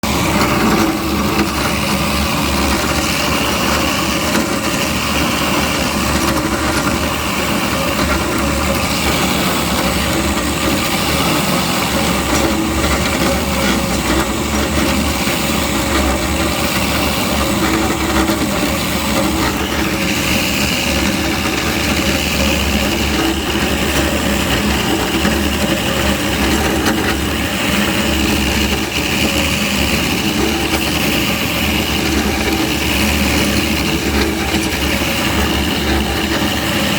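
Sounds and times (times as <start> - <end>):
concrete floor grinder running: 0.0 - 36.9.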